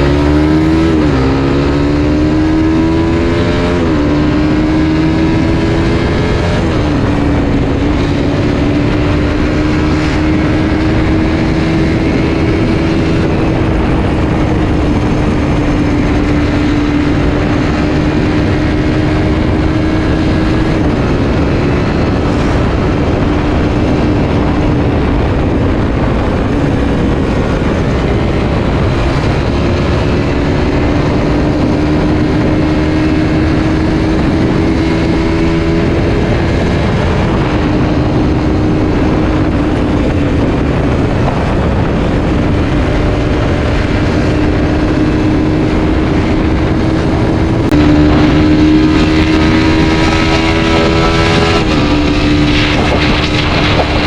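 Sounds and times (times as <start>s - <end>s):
motorcycle engine revving: 0.0s - 54.0s
steady rushing noise: 0.0s - 54.0s.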